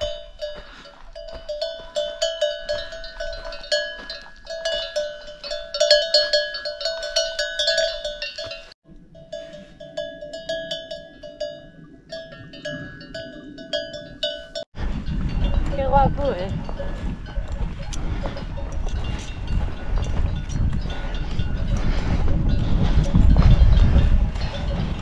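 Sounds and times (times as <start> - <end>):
livestock bell clanking: 0.0 - 25.0.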